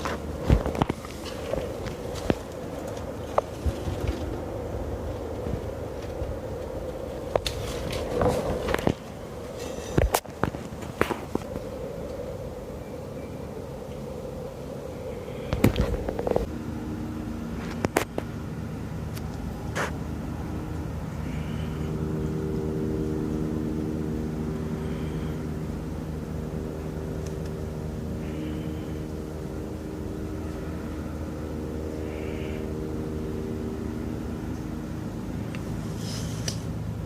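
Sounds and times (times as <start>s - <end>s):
helicopter rotor drone: 0.0s - 37.0s.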